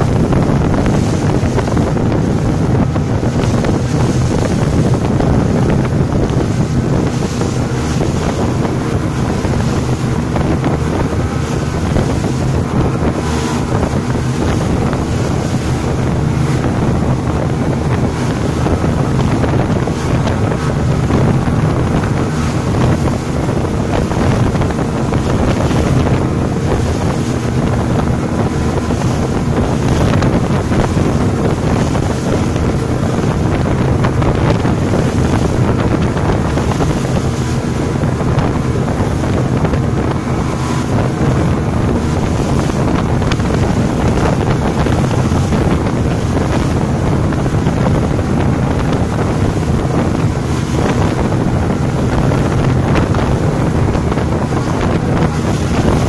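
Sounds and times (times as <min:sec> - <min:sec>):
speedboat engine: 0:00.0 - 0:56.0
water rushing and spray: 0:00.0 - 0:56.0
wind buffeting microphone: 0:00.0 - 0:56.0.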